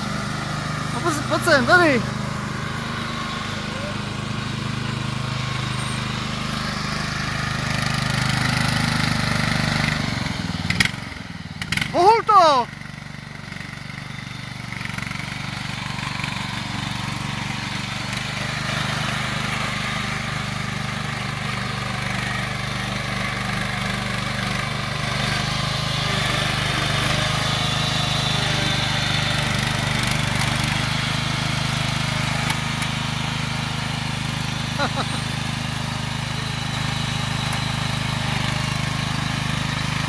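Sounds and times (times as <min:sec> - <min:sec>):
garden tractor engine running: 0:00.0 - 0:40.0.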